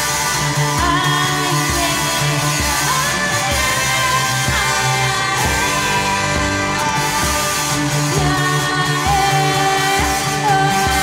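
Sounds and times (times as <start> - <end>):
electric guitar: 0.0 - 11.0
keyboards: 0.0 - 11.0
woman singing: 0.0 - 11.0
pulsing low bass: 0.3 - 11.0.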